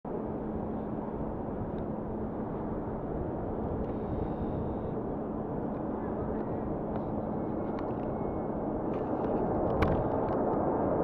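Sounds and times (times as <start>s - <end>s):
distant jet airliner taking off: 0.1s - 11.0s.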